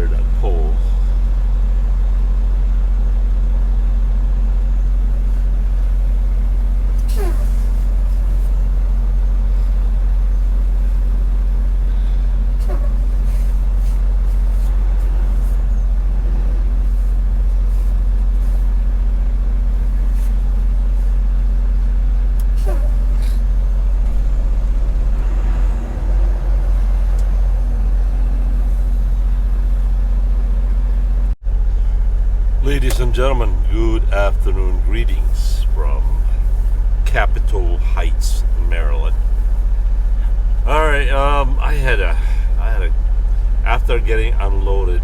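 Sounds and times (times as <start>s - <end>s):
road noise: 0.0s - 45.0s
truck engine drone: 0.0s - 45.0s.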